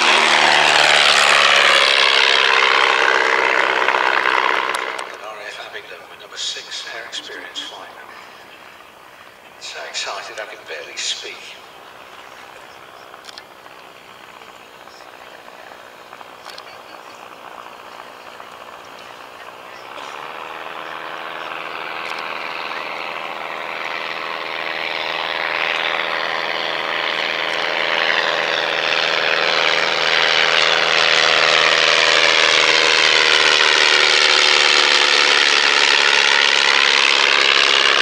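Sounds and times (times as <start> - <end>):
propeller aircraft engines droning: 0.0 - 38.0.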